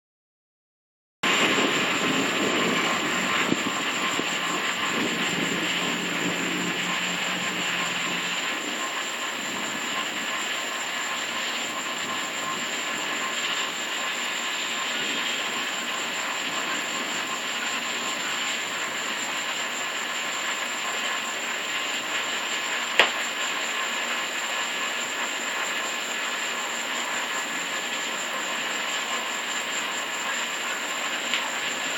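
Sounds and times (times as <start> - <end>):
heavy rain hissing: 1.2 - 31.9.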